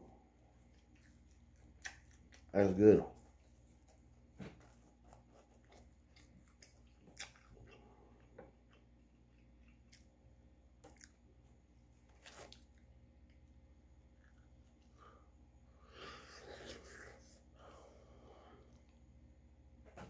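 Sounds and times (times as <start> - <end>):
low steady hum: 0.0 - 20.0
man chewing food: 0.1 - 19.6.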